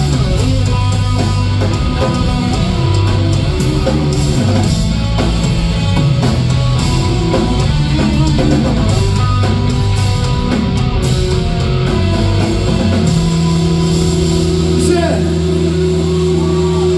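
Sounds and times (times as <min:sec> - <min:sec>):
rock band playing: 0:00.0 - 0:16.9.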